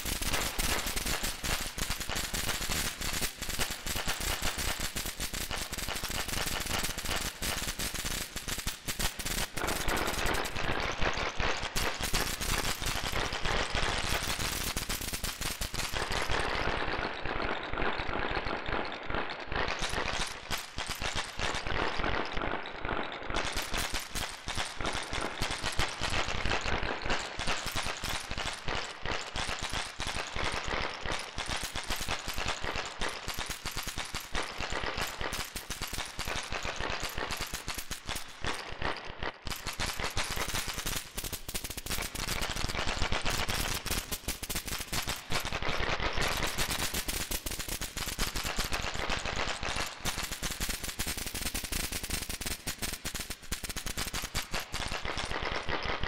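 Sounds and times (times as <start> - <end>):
rapid sharp cracks and clicks: 0.0 - 56.0.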